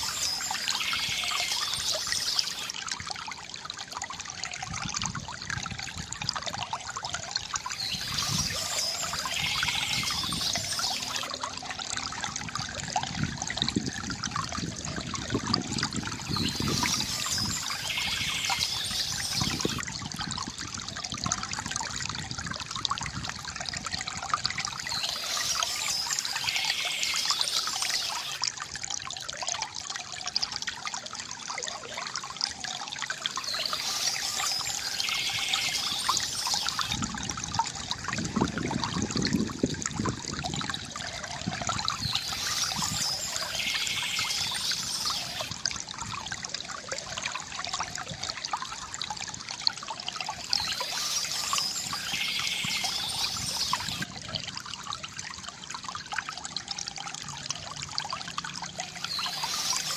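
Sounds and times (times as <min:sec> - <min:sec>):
lower rush of water: 0:00.0 - 0:59.9
water trickling from fountain: 0:00.0 - 0:59.9.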